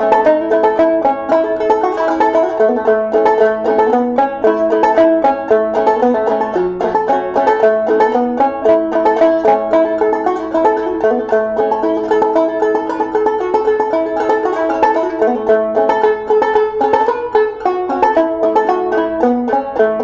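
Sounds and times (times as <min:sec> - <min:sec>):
banjo picking a tune: 0:00.0 - 0:20.0.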